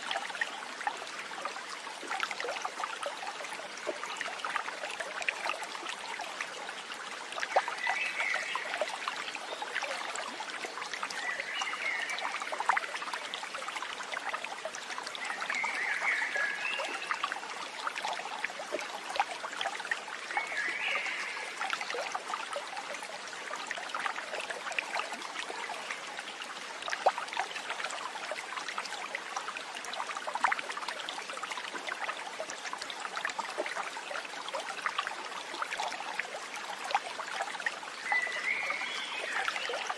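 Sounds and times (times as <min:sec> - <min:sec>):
stream trickling and burbling: 0:00.0 - 0:39.9.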